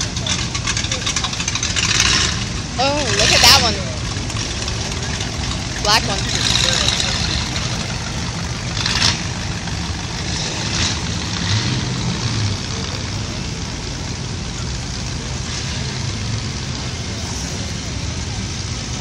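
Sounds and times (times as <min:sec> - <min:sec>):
old car engines rolling by: 0:00.0 - 0:19.0.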